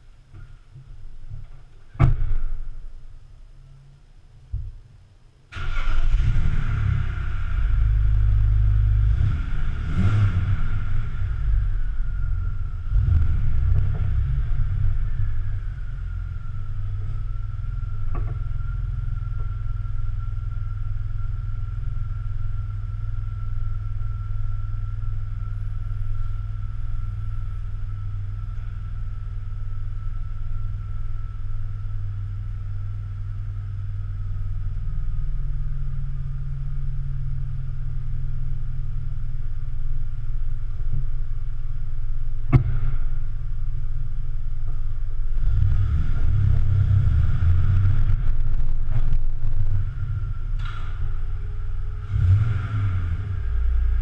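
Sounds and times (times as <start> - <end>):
car engine idling: 0.0 - 54.0
car pulling away: 5.5 - 54.0.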